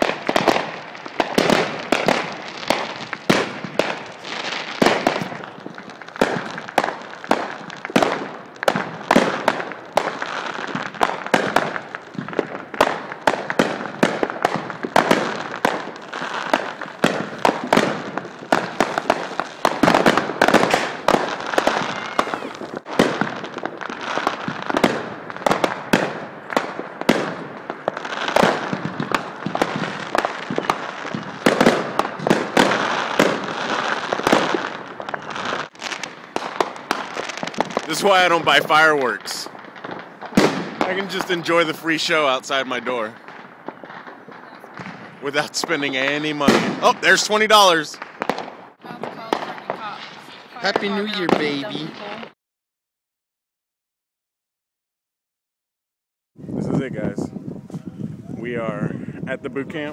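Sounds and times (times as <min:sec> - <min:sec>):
fireworks bangs: 0:00.0 - 0:52.4
fireworks crackling: 0:00.0 - 0:52.4.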